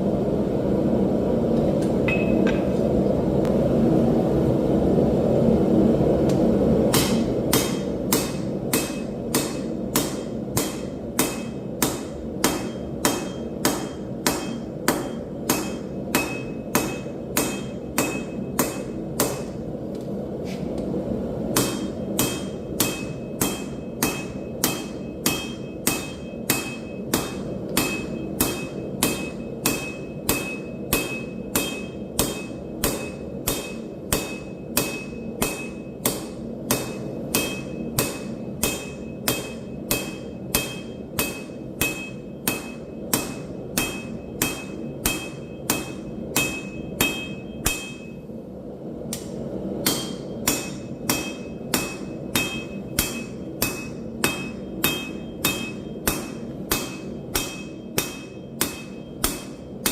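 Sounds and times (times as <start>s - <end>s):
hammer ringing on steel anvil: 2.1s - 2.7s, 7.0s - 19.5s, 21.6s - 48.2s, 49.8s - 59.9s.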